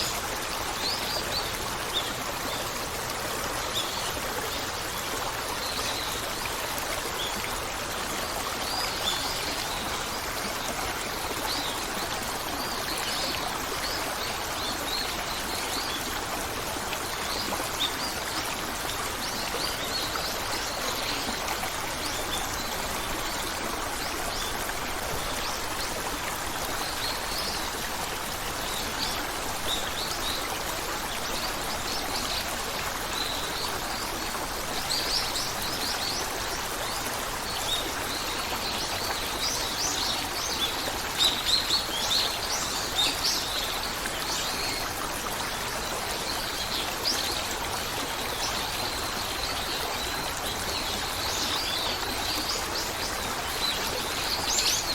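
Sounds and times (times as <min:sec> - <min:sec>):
stream of running water: 0:00.0 - 0:54.9.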